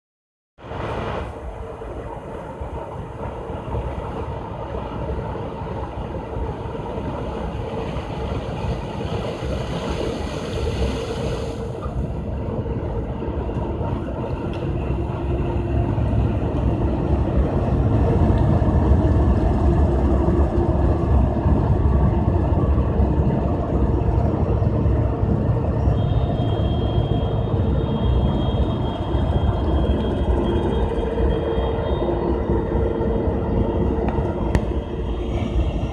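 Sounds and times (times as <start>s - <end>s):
combine harvester drone: 0.6s - 35.9s.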